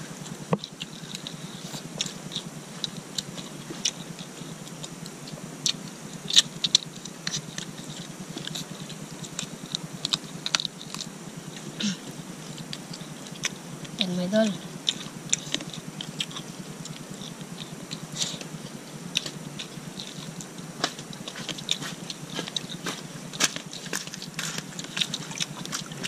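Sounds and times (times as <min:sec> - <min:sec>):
low steady background noise: 0:00.0 - 0:26.0
wet chewing and lip-smacking: 0:00.2 - 0:26.0.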